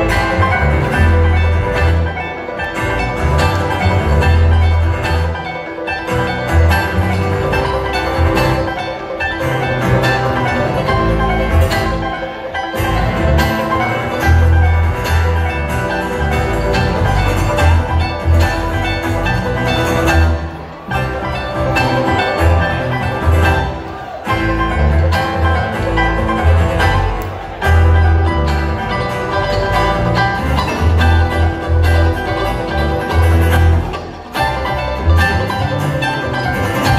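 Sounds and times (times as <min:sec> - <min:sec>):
live band playing loud music: 0:00.0 - 0:36.9.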